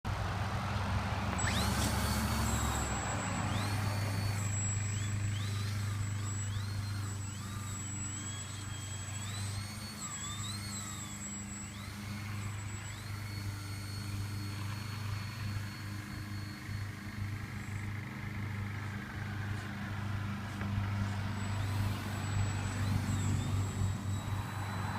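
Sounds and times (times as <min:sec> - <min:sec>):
steady low hum: 0:00.1 - 0:24.9
rc plane motor whining: 0:00.7 - 0:24.9.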